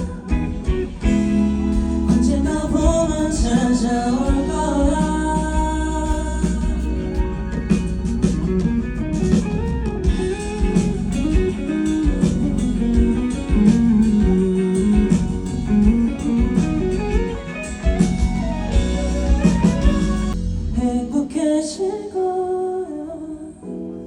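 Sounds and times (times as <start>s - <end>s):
guitar melody: 0.0s - 20.5s
live band playing: 0.0s - 21.5s
drum hits: 0.3s - 20.8s.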